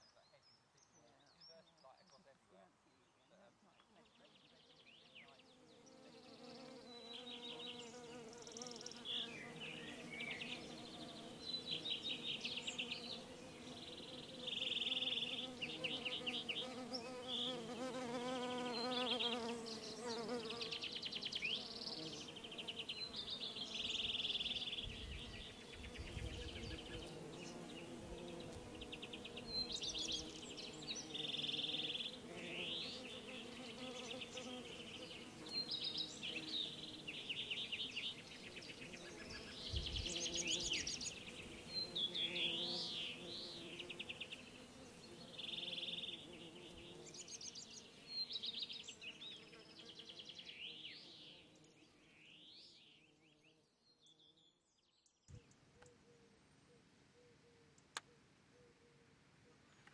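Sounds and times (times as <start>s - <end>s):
birds singing trills: 2.9s - 58.9s
insects buzzing: 5.2s - 53.4s.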